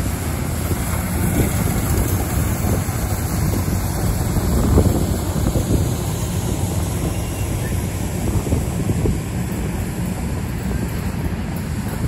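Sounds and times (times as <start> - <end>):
train wheels rumbling on rail: 0.0 - 12.0
wind buffeting microphone: 0.0 - 12.0.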